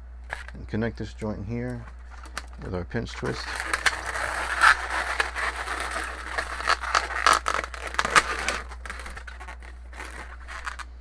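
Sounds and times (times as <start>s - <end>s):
balloons being twisted: 0.3s - 0.6s, 1.8s - 11.0s.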